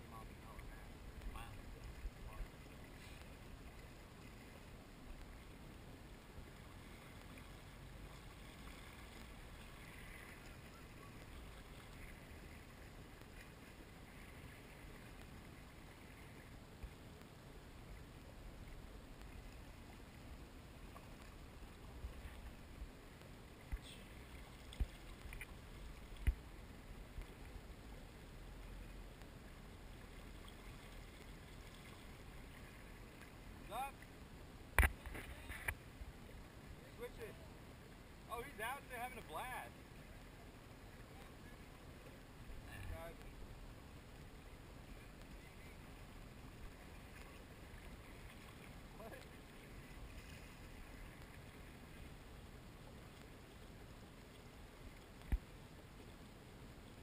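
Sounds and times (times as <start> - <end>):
lake water lapping: 0.0 - 57.0.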